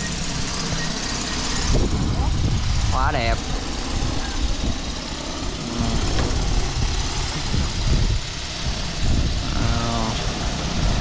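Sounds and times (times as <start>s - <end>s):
drone rotors running: 0.0s - 11.0s.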